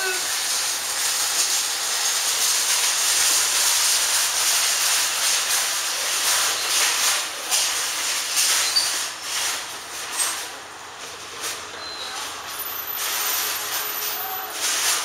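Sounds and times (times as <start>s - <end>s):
loud rushing hiss: 0.0s - 15.0s.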